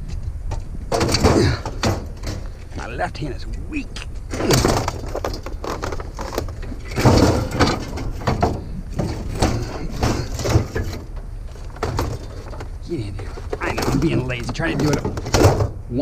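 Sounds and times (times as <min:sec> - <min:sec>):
scrap clunking and scraping: 0:00.0 - 0:16.0.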